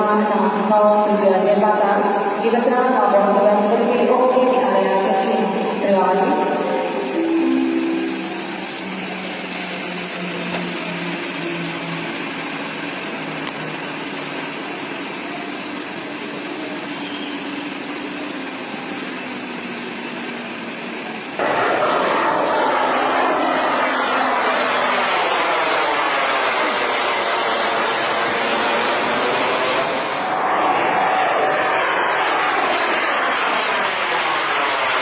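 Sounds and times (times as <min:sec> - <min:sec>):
jet passing close by: 0:00.0 - 0:15.2, 0:17.9 - 0:35.0
jet engine rushing and whining: 0:00.0 - 0:35.0.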